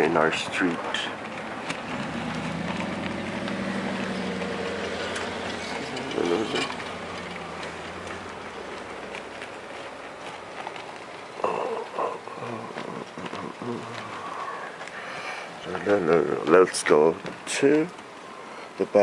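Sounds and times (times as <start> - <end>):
truck engine droning: 0.0 - 18.8.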